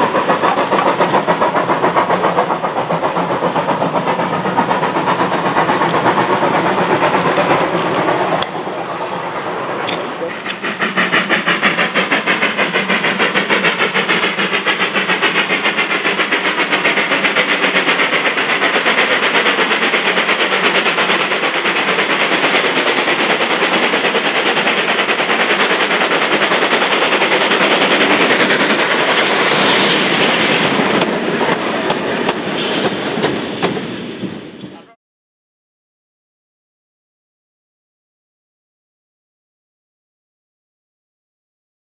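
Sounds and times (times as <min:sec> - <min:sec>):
steam locomotive exhaust beats: 0:00.0 - 0:35.0.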